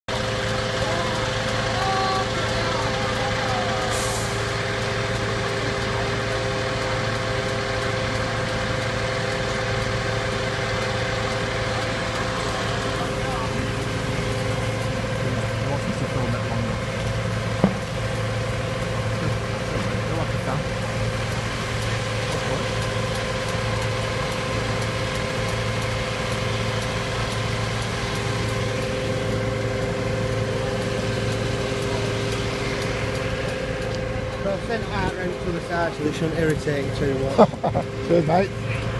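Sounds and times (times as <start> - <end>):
fire engine humming: 0.0 - 38.9.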